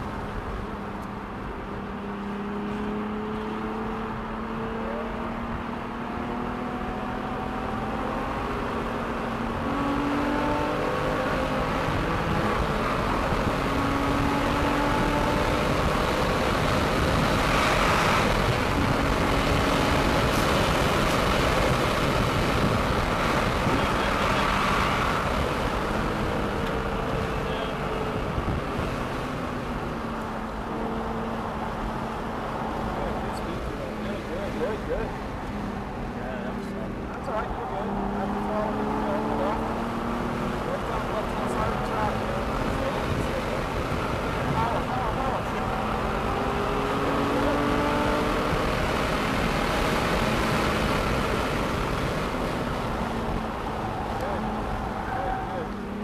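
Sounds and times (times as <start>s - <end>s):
sports car engine revving: 0.0s - 56.0s
wind and road noise: 0.0s - 56.0s.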